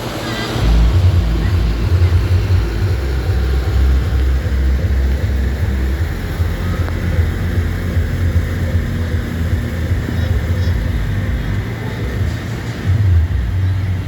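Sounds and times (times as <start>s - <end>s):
tractor diesel engines running: 0.0s - 14.0s.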